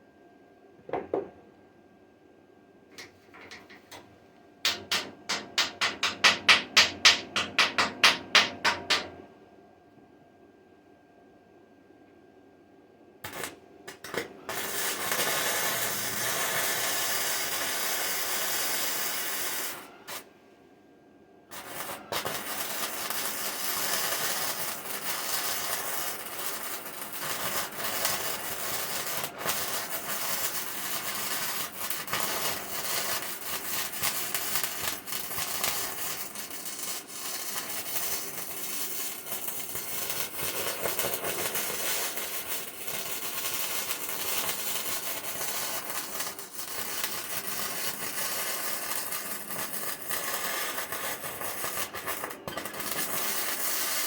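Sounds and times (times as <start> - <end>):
arc welder crackling: 2.9 - 9.1, 13.2 - 20.3, 21.5 - 54.0.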